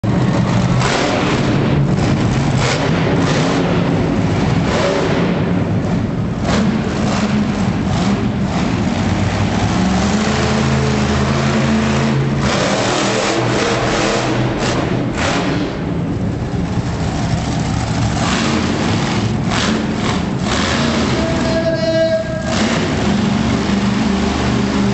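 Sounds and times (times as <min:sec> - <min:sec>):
loud truck engine running: 0:00.0 - 0:24.9.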